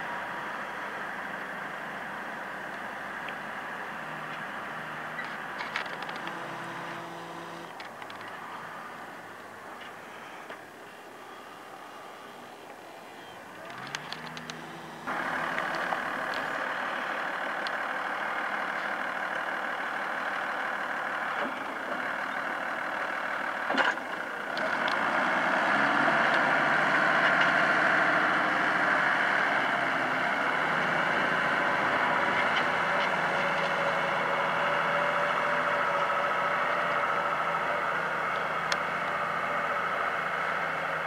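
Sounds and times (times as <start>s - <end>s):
tractor diesel engine under load: 0.0s - 41.0s.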